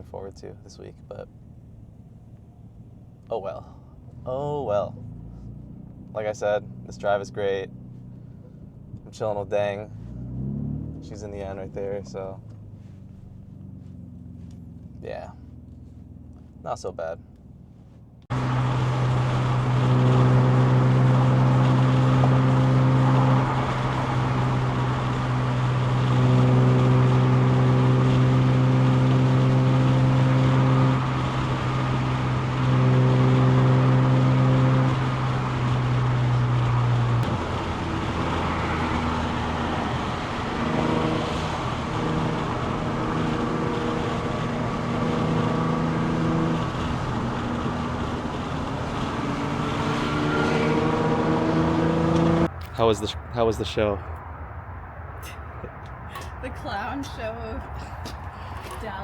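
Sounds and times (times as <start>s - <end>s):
car engine droning: 0.0s - 59.0s
lower engine note: 0.0s - 59.0s.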